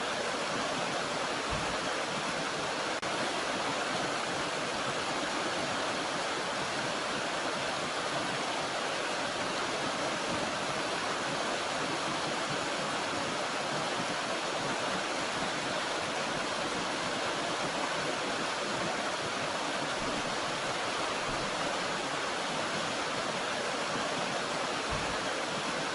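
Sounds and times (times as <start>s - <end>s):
stream and waterfall rushing: 0.0s - 25.9s.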